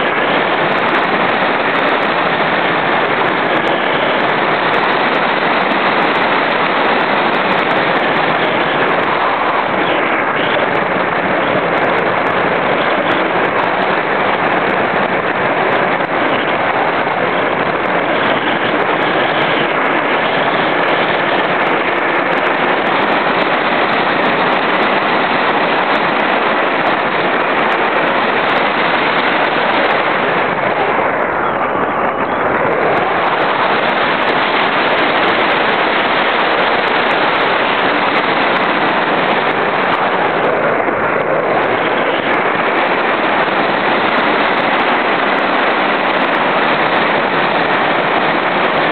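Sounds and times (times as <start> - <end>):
wind rushing over camera: 0.0 - 48.9.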